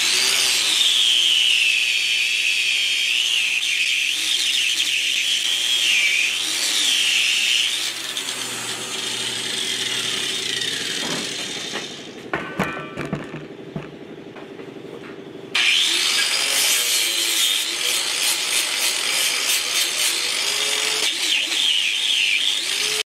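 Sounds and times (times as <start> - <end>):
power tool abrading metal: 0.0 - 14.0, 15.5 - 23.0.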